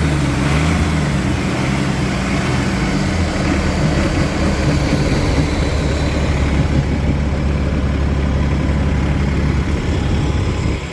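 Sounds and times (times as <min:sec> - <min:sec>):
bus diesel engine idling: 0:00.0 - 0:10.9.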